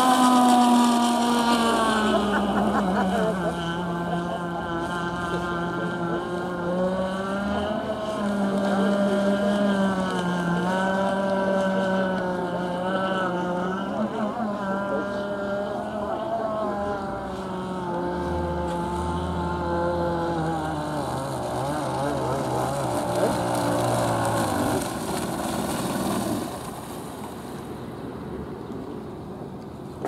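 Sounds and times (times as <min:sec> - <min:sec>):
model boat engine buzzing: 0:00.0 - 0:27.9.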